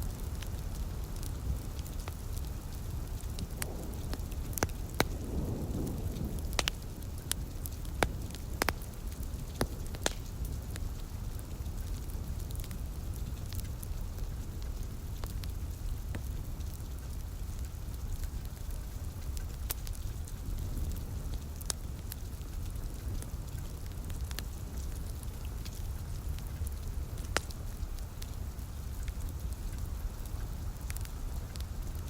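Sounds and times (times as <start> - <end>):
rain: 0.0 - 32.0
wood fire crackling: 0.0 - 32.0.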